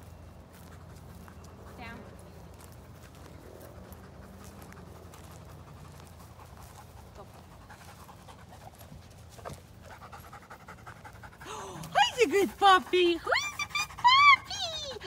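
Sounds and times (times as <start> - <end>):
dog panting: 0.5 - 15.0.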